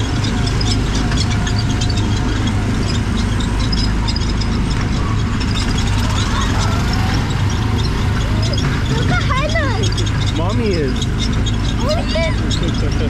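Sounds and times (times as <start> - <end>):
rattle of small ticks: 0.0 - 13.0
small gasoline engine running: 0.0 - 13.0.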